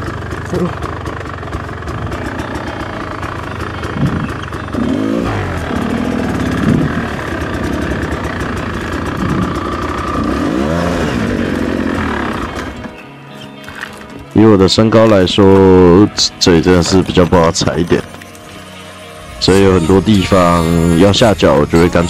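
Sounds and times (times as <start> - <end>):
motorcycle engine revving: 0.0 - 14.3, 15.4 - 22.0.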